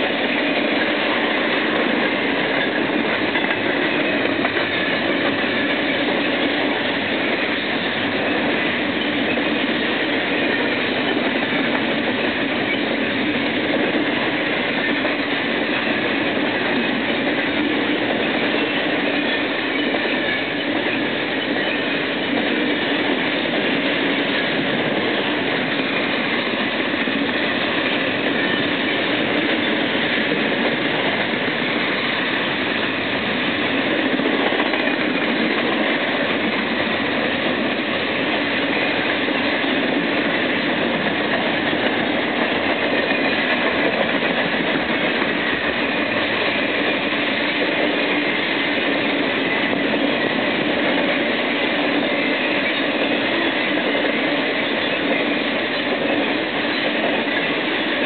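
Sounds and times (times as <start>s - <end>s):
freight train wheels rolling: 0.0s - 58.0s.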